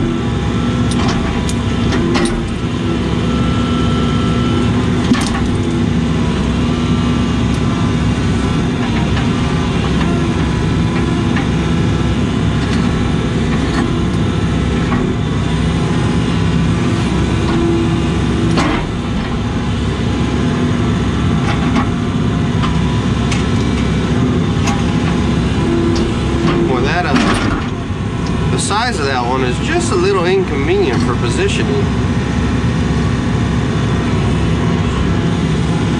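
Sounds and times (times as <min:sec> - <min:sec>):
excavator diesel engine running: 0:00.0 - 0:35.9
hydraulics working: 0:00.0 - 0:35.9.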